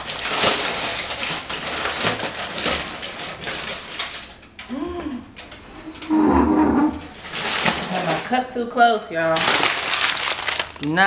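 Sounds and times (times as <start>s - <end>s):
aluminium foil crinkling: 0.0s - 6.1s, 7.1s - 11.0s.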